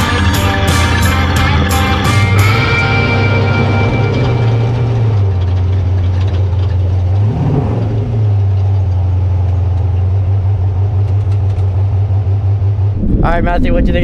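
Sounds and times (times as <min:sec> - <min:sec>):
truck engine idling: 0:00.0 - 0:07.3, 0:08.1 - 0:13.0
engine revving: 0:00.0 - 0:13.4.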